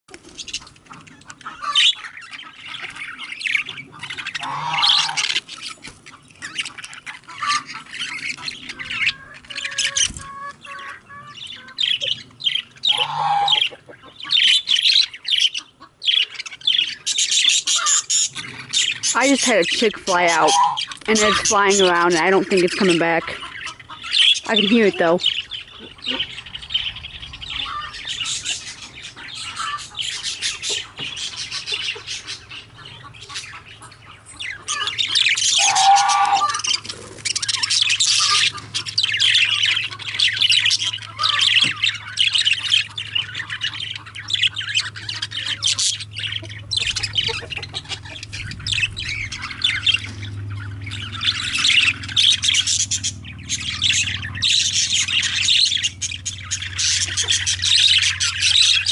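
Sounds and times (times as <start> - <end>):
budgerigars chattering and calling: 0.1 - 58.9.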